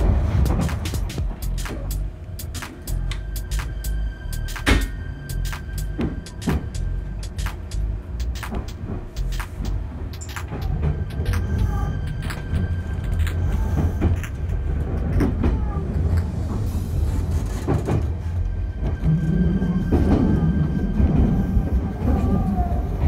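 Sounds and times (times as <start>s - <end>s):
wheels clicking over rail joints: 0.0s - 19.1s
train rumbling on track: 0.0s - 23.0s.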